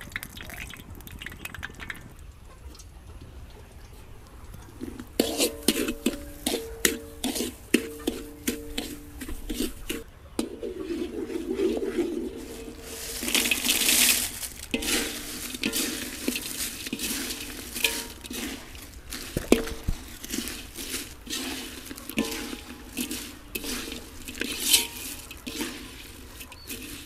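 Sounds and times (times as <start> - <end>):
kitchen utensils and dishes clinking: 5.1 - 27.0.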